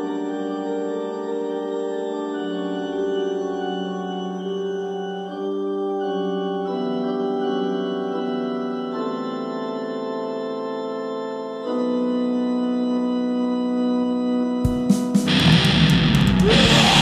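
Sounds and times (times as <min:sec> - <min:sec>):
synth keyboard slow chords: 0:00.0 - 0:17.0.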